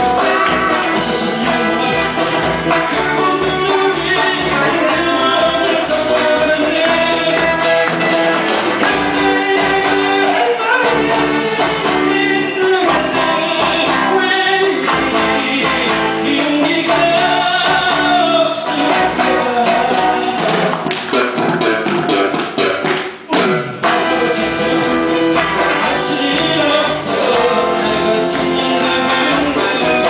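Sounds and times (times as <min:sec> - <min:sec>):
live pop-rock band playing: 0:00.0 - 0:30.0
person singing: 0:00.0 - 0:30.0.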